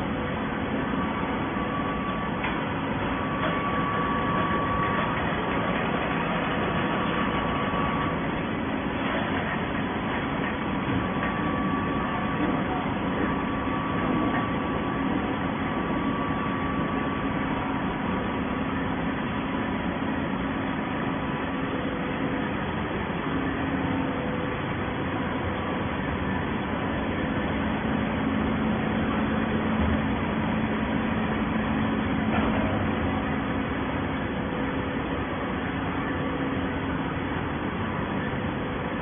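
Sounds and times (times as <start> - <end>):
baling machine hum: 0.0 - 39.0.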